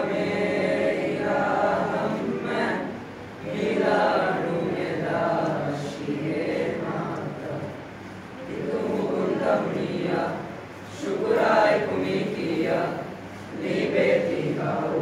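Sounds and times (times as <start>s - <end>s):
young voices singing in unison: 0.0s - 15.0s.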